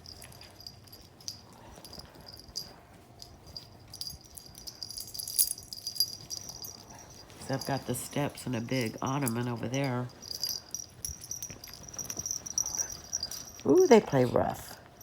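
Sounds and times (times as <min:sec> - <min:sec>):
metal collar tags jingling: 0:00.0 - 0:14.6.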